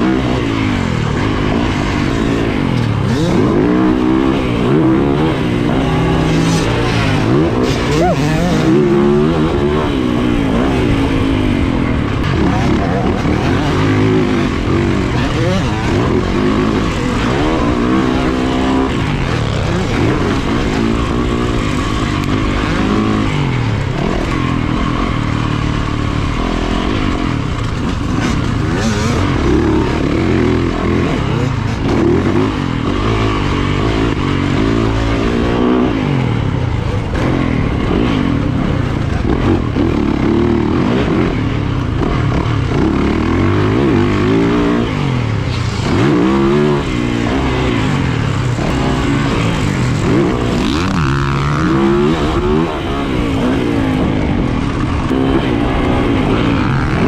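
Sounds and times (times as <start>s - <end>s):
dirt bike engine revving: 0.0s - 57.0s
track noise: 0.0s - 57.0s.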